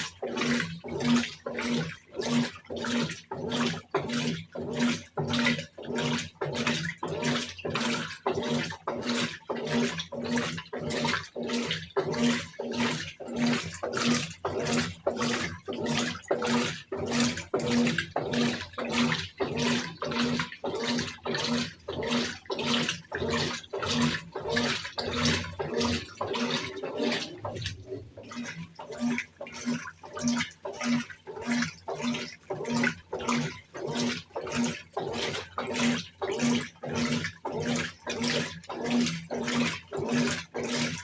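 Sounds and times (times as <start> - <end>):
washing machine motor hum: 0.0 - 41.0
washing machine water sloshing: 0.0 - 41.0.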